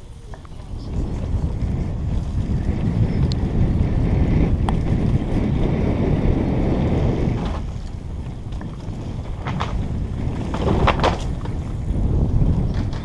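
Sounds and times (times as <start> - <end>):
bike rattling over bumps: 0.0 - 13.0
bike tyres rumbling: 0.0 - 13.0
wind buffeting microphone: 0.0 - 13.0.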